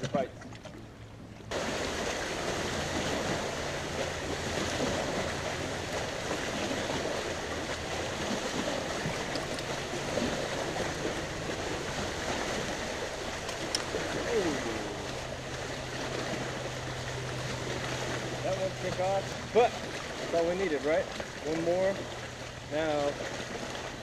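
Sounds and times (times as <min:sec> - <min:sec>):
water rushing: 0:00.0 - 0:24.0
wind: 0:00.0 - 0:24.0.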